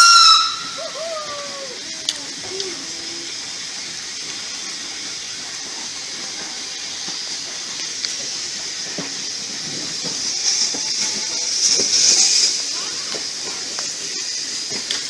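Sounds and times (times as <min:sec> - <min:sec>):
train steady hiss: 0:00.0 - 0:15.0
wheels clicking on rails: 0:00.0 - 0:15.0.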